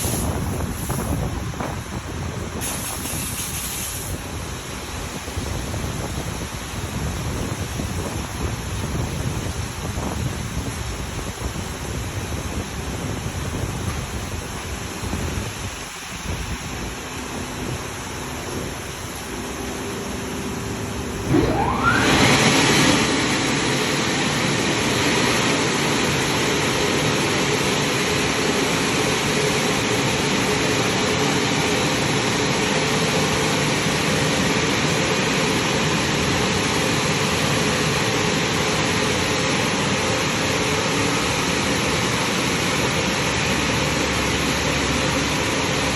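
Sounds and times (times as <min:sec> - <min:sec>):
blower whine and rush of air: 0:00.0 - 0:45.9
car wash machinery rushing: 0:00.0 - 0:45.9.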